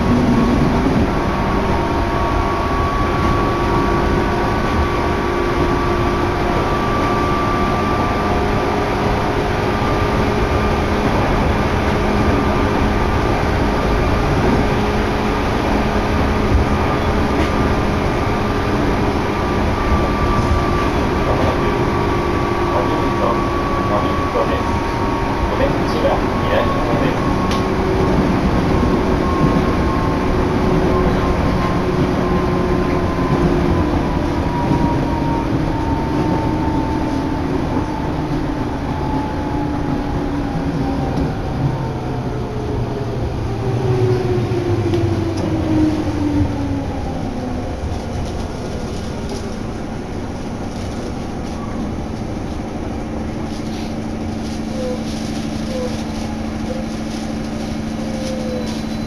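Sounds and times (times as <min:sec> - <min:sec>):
low hum of standing train: 0:00.0 - 0:59.0
train running noise: 0:00.0 - 0:59.0.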